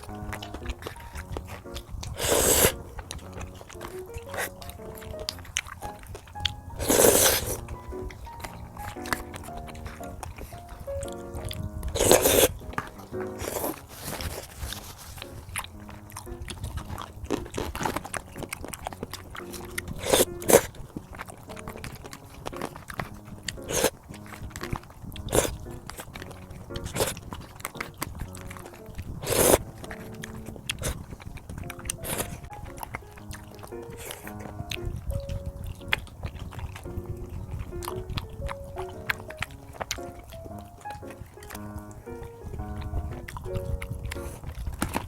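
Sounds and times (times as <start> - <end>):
light background music: 0.0 - 45.0
person eating crunchy food: 0.0 - 45.0.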